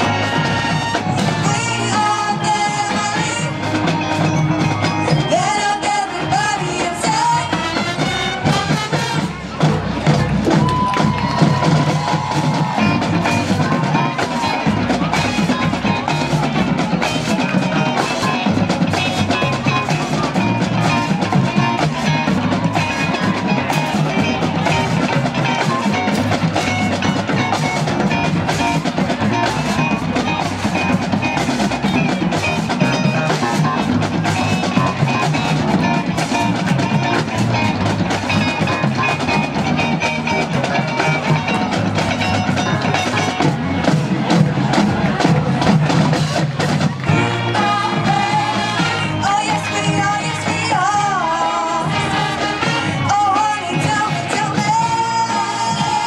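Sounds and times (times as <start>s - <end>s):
drumline and bass drums: 0.0s - 56.0s
marching band wind instruments: 0.0s - 56.0s.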